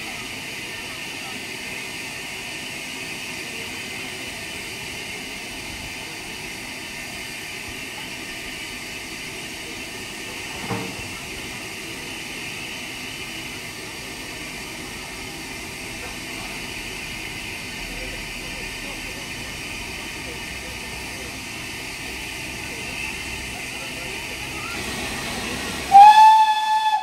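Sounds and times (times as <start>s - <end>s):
steam hissing: 0.0s - 27.0s.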